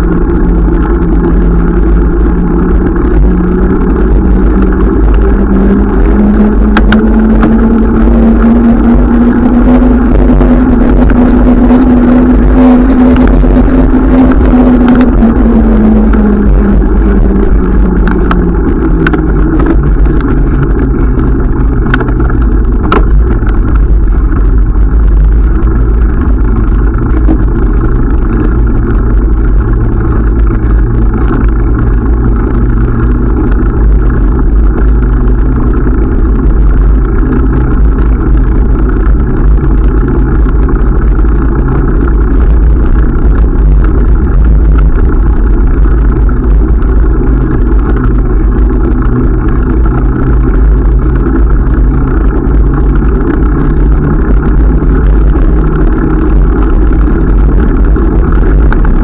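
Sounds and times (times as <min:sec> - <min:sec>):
bicycle tyre rumble: 0:00.0 - 0:59.0
wind buffeting microphone: 0:00.0 - 0:59.0.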